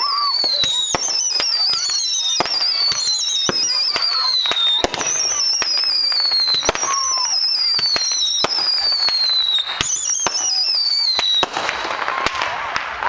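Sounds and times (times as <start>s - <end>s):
fireworks bangs and pops: 0.0s - 13.0s
fireworks high whistle: 0.0s - 13.0s.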